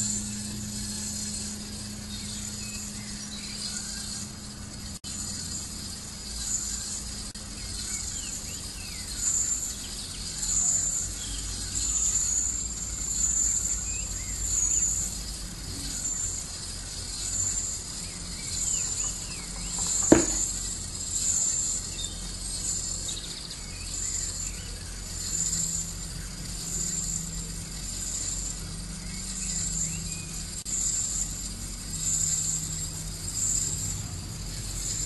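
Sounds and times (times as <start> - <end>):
high-pitched insect chirring: 0.0 - 35.0
low steady hum: 0.0 - 35.0.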